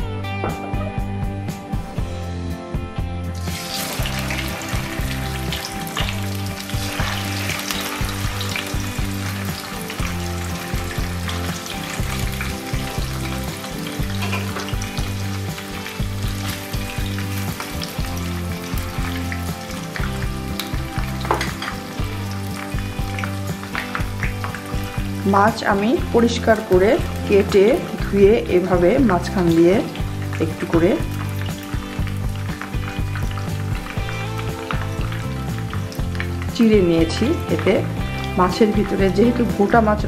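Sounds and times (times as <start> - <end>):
oil popping and spattering: 3.4 - 25.3, 26.6 - 38.4
fish sizzling in hot oil: 3.4 - 40.0.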